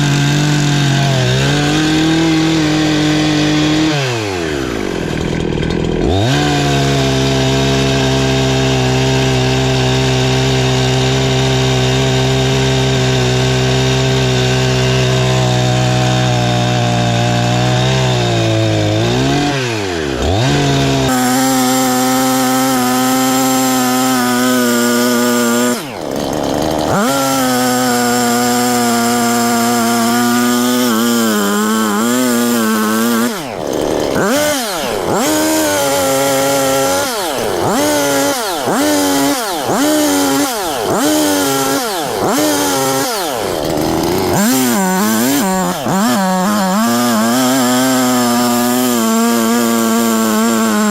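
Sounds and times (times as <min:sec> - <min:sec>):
chainsaw running at high revs: 0:00.0 - 0:50.9.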